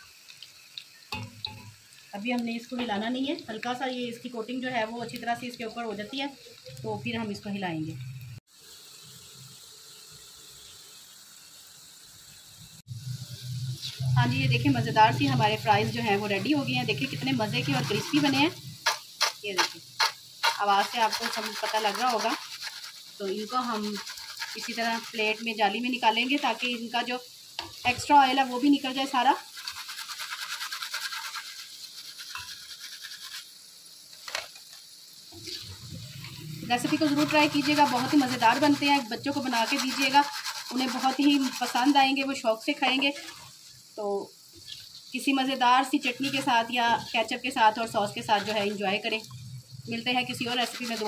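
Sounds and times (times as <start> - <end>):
fries sizzling in hot oil: 0.0 - 51.0.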